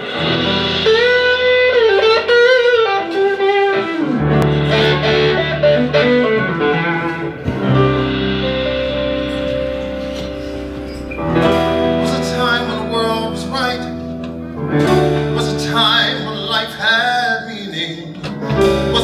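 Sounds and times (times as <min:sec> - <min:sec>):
bass line: 0:00.0 - 0:17.5, 0:18.2 - 0:19.0
electric guitar lead melody: 0:00.0 - 0:19.0.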